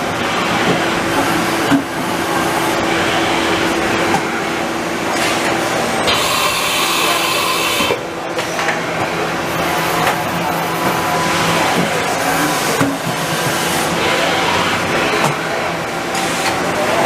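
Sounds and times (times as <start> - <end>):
high machine whine and hiss: 0.0 - 17.0
machine hum: 0.0 - 17.0.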